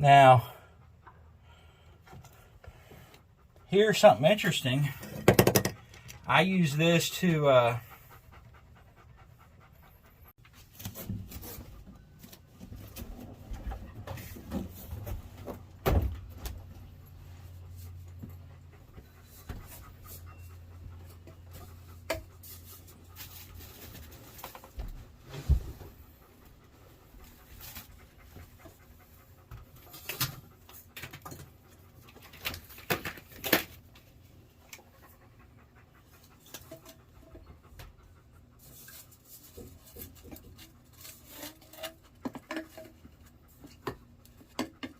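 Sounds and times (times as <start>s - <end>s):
dog panting: 0.1s - 10.6s, 16.5s - 33.2s, 33.8s - 44.9s.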